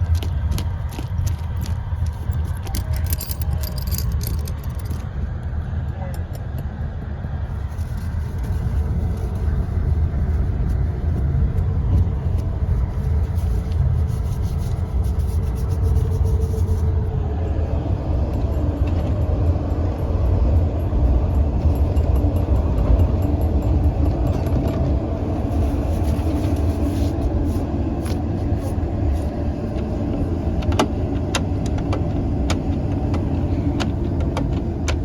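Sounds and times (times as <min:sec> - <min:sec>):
train rumbling inside compartment: 0:00.0 - 0:35.0.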